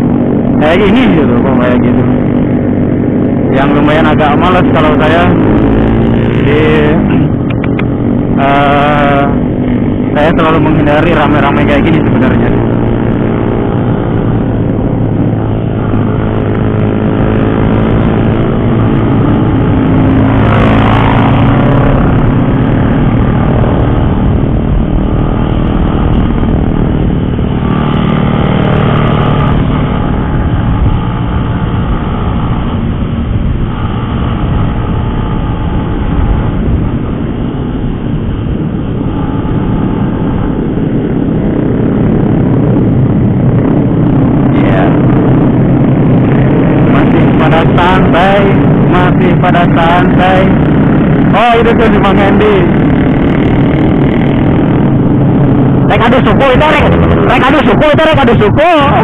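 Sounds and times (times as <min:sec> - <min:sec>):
motorcycle engine rumbling: 0:00.0 - 0:59.0
vehicle passing: 0:03.7 - 0:59.0.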